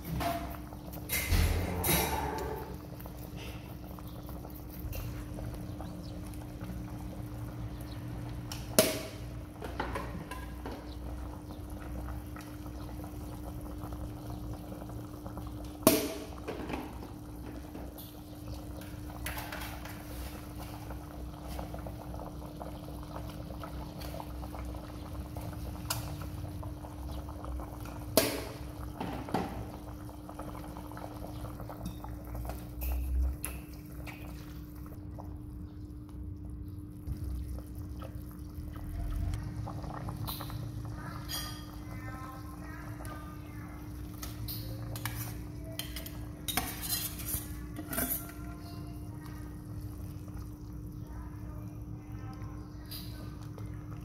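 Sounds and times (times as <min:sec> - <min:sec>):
soup bubbling in a pot: 0:00.0 - 0:54.0.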